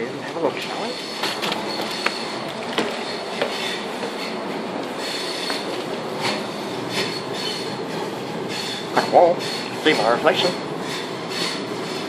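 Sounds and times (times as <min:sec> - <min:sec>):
train running noise: 0:00.0 - 0:12.0
wheels clicking on rails: 0:00.2 - 0:12.0.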